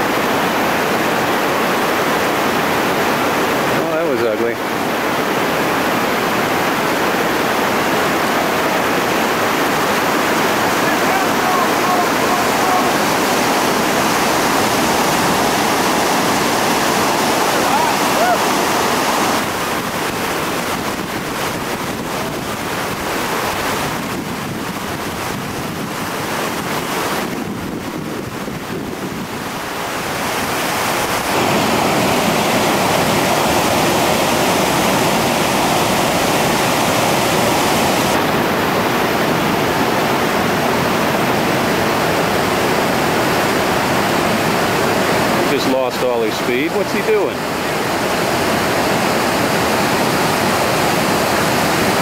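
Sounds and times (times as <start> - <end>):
river water rushing over rocks: 0.0 - 52.0.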